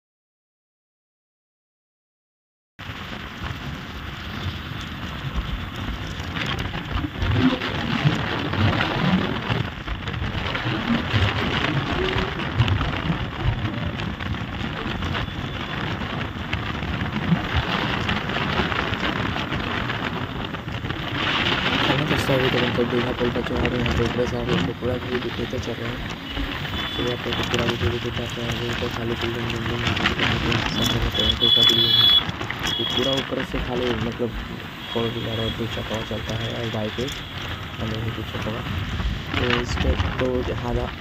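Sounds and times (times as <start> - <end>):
vehicle and road rumble: 2.8 - 41.0
wind buffeting microphone: 2.8 - 41.0.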